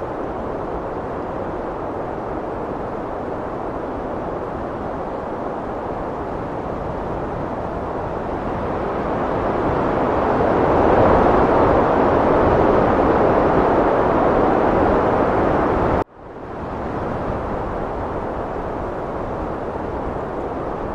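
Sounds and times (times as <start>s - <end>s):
strong wind blowing: 0.0s - 20.9s.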